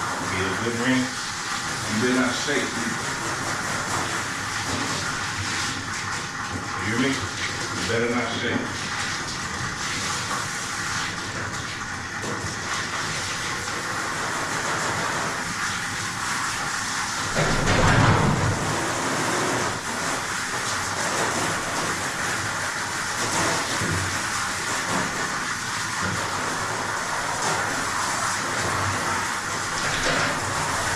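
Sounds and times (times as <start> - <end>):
water spraying from nozzle: 0.0 - 30.9.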